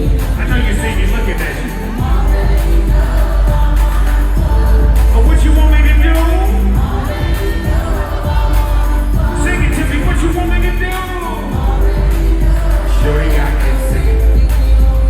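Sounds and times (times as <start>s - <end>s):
heavy bass line: 0.0s - 15.0s
person singing: 0.0s - 15.0s.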